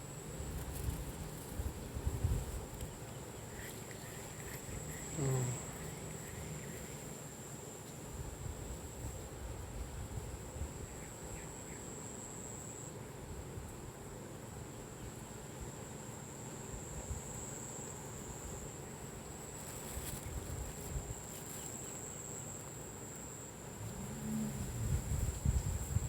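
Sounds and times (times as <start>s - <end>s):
insects chirring: 0.0s - 9.4s, 10.4s - 13.2s, 14.7s - 26.0s.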